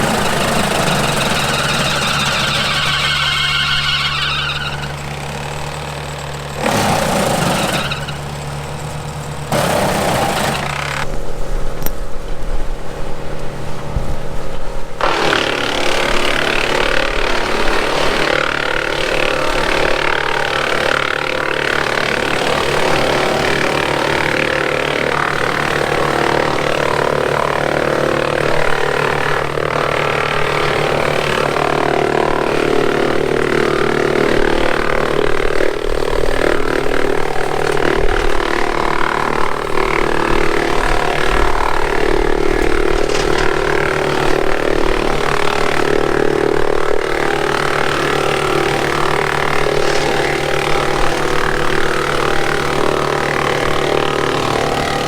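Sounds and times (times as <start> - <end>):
tractor diesel engine: 0.0 - 11.9, 15.0 - 55.0
wood chipper chipping brush: 0.0 - 12.0, 14.9 - 55.0.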